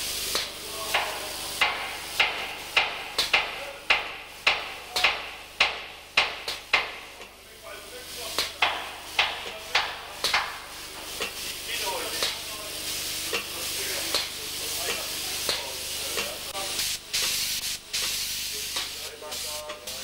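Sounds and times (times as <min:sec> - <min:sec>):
paint hissing: 0:00.0 - 0:20.0.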